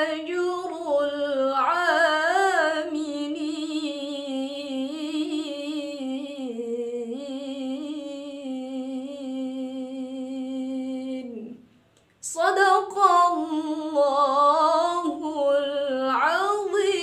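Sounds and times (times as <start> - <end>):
woman reciting melodically: 0.0 - 17.0.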